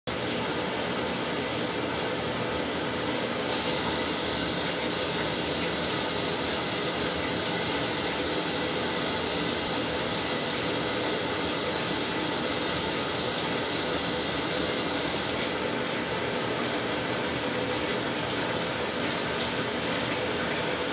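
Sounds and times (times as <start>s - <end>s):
faint machine hum: 0.1s - 20.9s
washing machine water churning: 0.1s - 20.9s
water streaming in: 0.1s - 20.9s.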